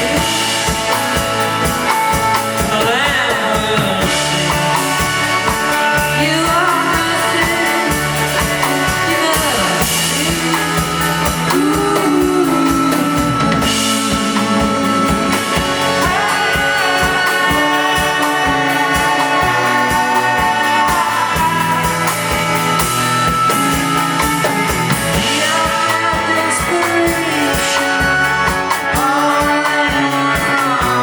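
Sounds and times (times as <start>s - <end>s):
person singing: 0.0s - 31.0s
rock band playing: 0.0s - 31.0s.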